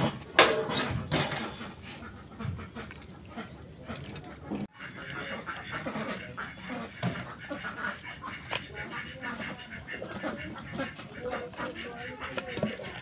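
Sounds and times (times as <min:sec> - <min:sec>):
hand squelching wet meat: 0:00.0 - 0:13.0.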